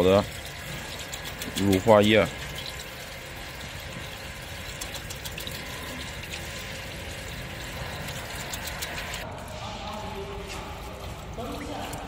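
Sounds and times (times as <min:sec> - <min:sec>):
liquid pouring into tank: 0:00.0 - 0:12.0.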